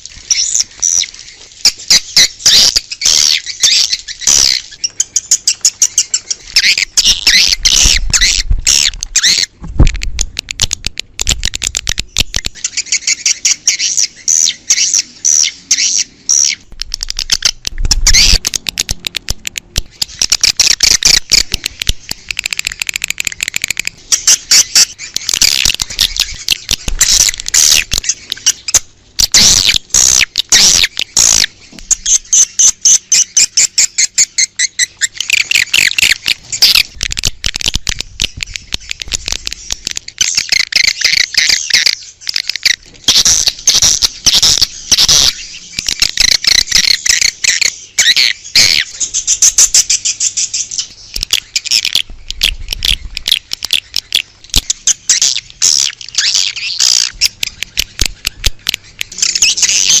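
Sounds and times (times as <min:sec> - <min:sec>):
swiftlets twittering and chirping: 0:00.0 - 1:00.0.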